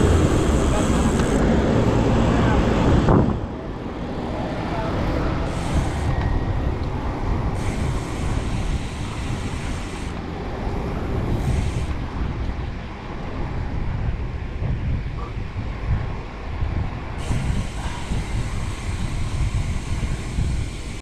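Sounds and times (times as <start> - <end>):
road traffic: 0.0 - 21.0
wind rumbling on microphone: 0.0 - 21.0.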